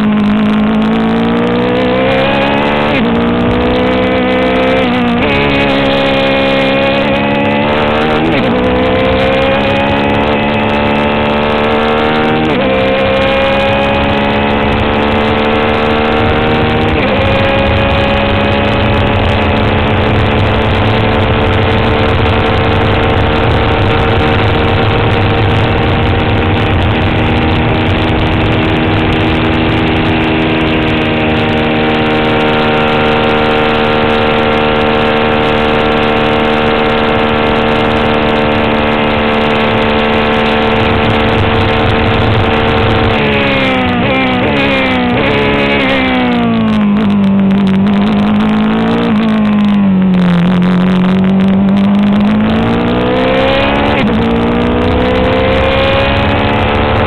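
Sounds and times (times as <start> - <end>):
engine downshifts: 0.0 - 57.0
race car engine at high revs: 0.0 - 57.0
wind rush: 0.0 - 57.0.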